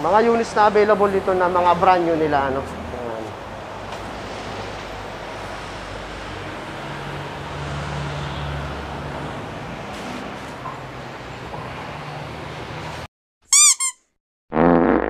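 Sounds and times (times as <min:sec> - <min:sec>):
road traffic noise: 0:00.0 - 0:13.1.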